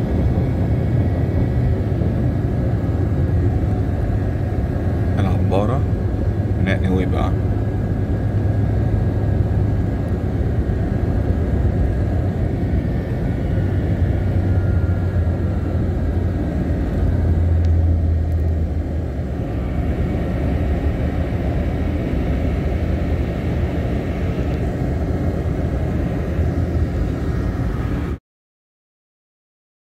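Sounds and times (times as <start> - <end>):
car driving heard from inside: 0.0 - 28.1.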